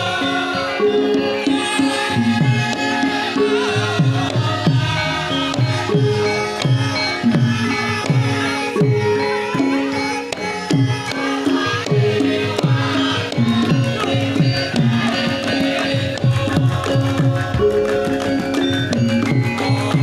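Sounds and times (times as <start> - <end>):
ringing metallophone tones: 0.0 - 20.0.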